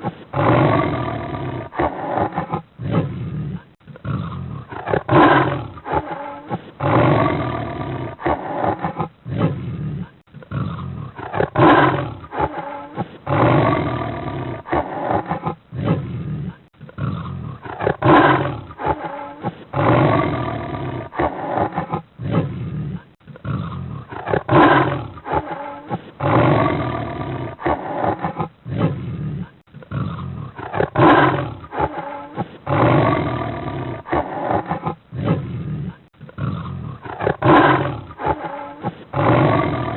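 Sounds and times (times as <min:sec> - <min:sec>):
big cat roaring and growling: 0:00.0 - 0:39.9.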